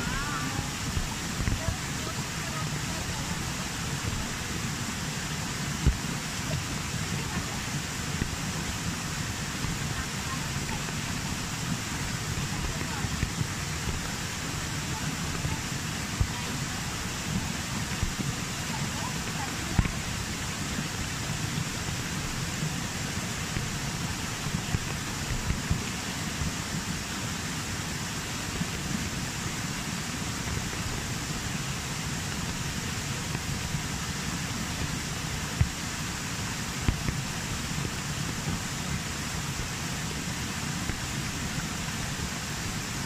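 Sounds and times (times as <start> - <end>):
rain falling: 0.0 - 43.0
waterfall pouring over rock: 0.0 - 43.0.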